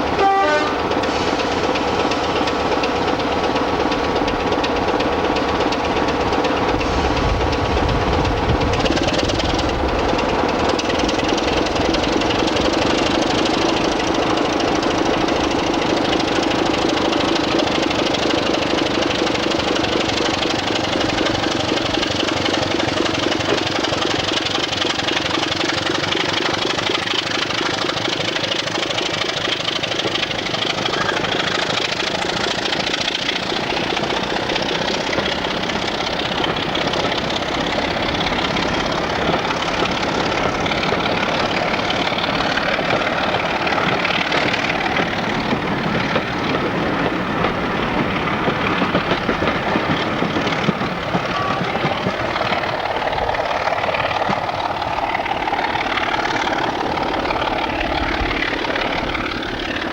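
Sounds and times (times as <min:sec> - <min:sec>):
diesel train engine droning: 0:00.0 - 0:59.9.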